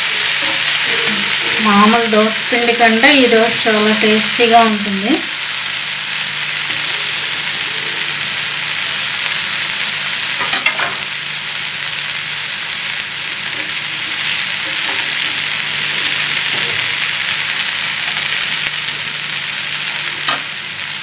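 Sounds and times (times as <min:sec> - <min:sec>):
dosa sizzling on a hot pan: 0:00.0 - 0:21.0.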